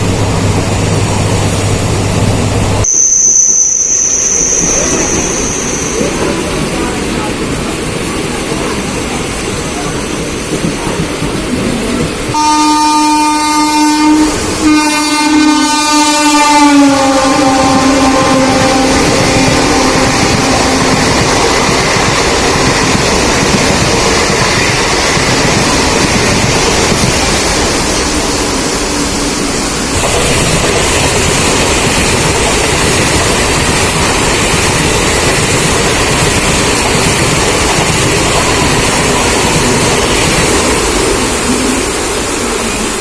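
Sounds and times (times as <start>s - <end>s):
train wheels rushing on track: 0.0s - 43.0s
wind: 0.0s - 43.0s
heavy rain: 6.1s - 43.0s.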